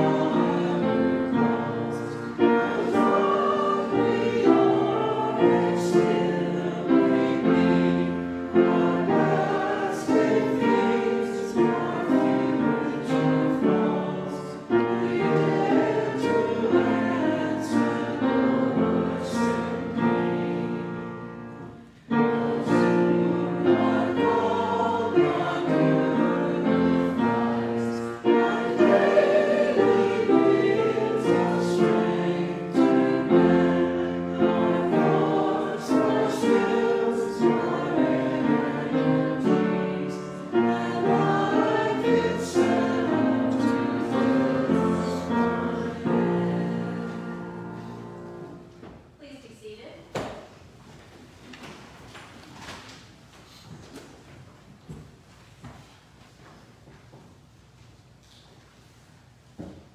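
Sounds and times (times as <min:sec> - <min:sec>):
choir singing a hymn: 0:00.0 - 0:48.8
piano accompaniment: 0:00.0 - 0:48.8.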